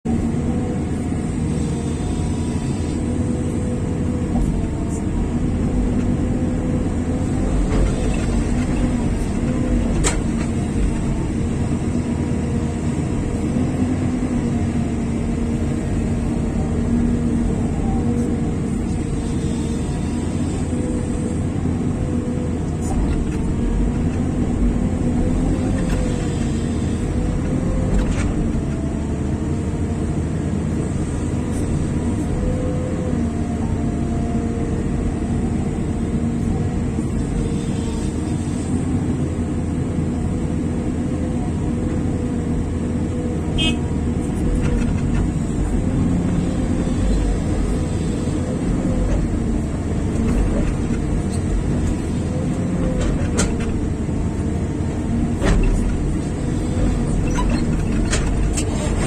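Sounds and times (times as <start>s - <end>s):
heavy machinery diesel drone: 0.0s - 59.0s.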